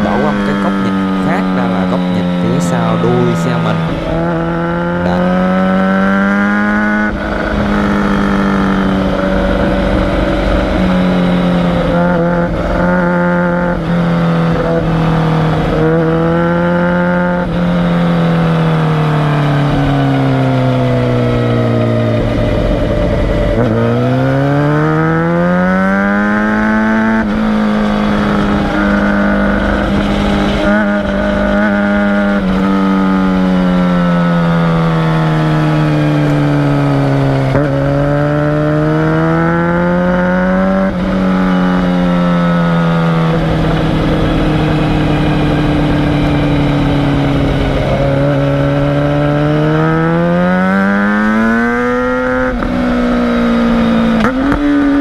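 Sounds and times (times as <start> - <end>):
motorcycle engine running hard: 0.0 - 55.0.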